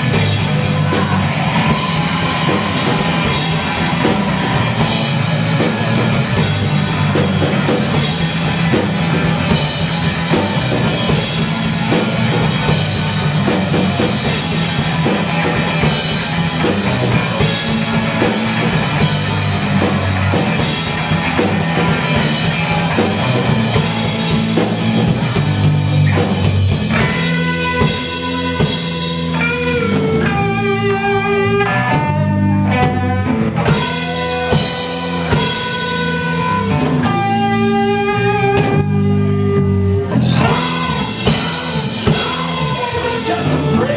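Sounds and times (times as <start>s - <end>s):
live indie rock band: 0.0s - 43.9s.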